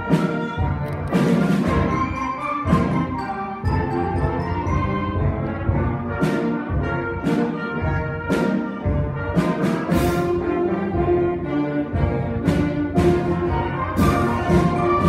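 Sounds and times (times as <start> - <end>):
concert band playing: 0.0 - 15.0.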